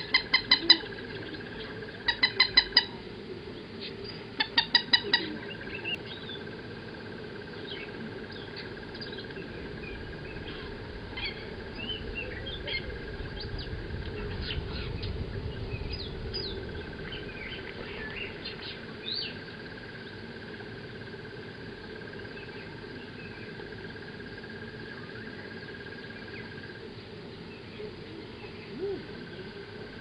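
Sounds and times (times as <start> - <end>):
high insect trill: 0.0 - 30.0
low background noise: 0.0 - 30.0
wild birds chirping: 0.0 - 30.0.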